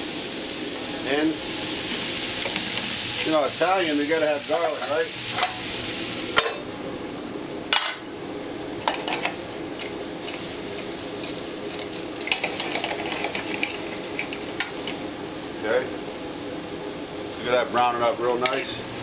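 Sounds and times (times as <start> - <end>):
vegetables sizzling in a skillet: 0.0 - 6.8, 7.7 - 19.0.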